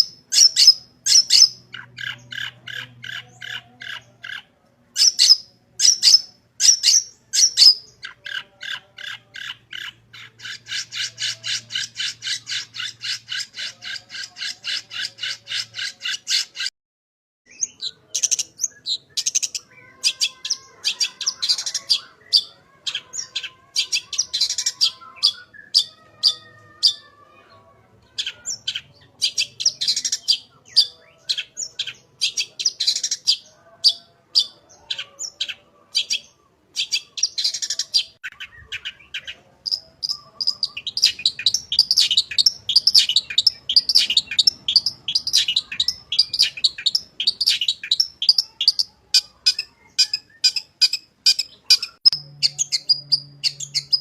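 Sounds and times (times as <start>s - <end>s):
shrike singing: 0.0s - 16.7s, 17.5s - 54.0s.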